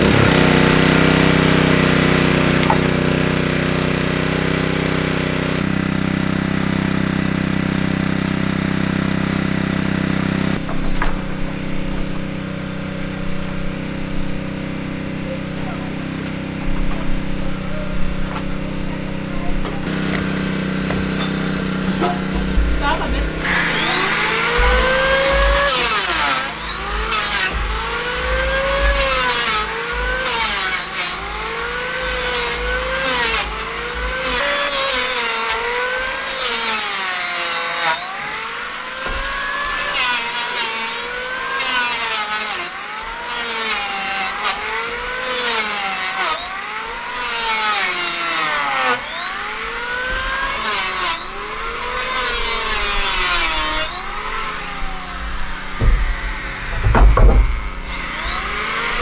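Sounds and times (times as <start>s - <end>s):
hand saw cutting wood: 0.0s - 59.0s.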